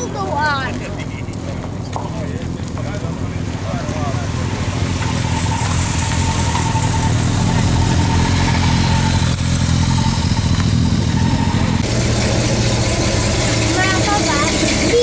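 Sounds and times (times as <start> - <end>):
car engines passing slowly: 0.0 - 15.0.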